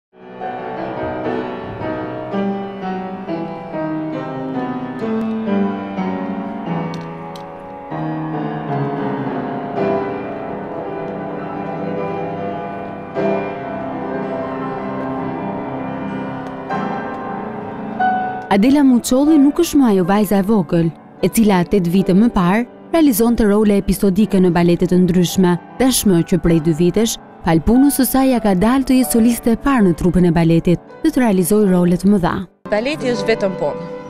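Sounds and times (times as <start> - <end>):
classical piano music: 0.2 - 34.0.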